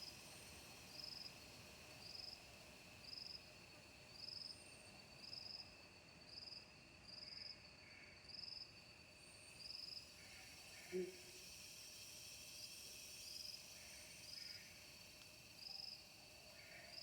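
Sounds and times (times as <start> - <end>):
high-pitched insect hum: 0.0 - 17.0
insect chirping: 0.0 - 17.0.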